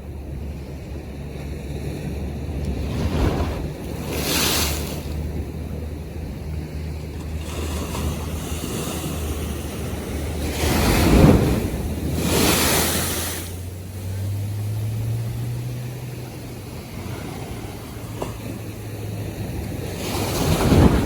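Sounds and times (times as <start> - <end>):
waves washing: 0.0 - 21.0
wind buffeting microphone: 0.0 - 21.0.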